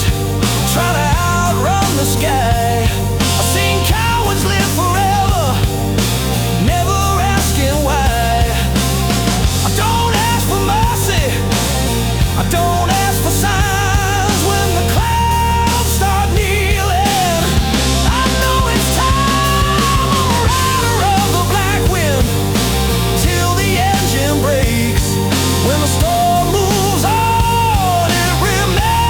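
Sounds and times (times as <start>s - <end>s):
drums: 0.0s - 29.0s
heavy bass: 0.0s - 29.0s.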